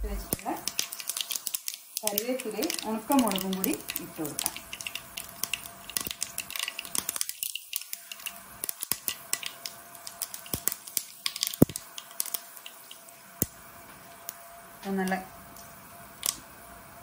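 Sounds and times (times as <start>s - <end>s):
seeds popping in hot oil: 0.0s - 17.0s.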